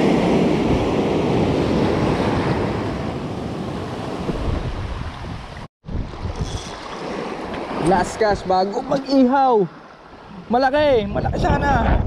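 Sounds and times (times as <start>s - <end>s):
wind on microphone: 0.0s - 9.1s, 10.3s - 12.0s.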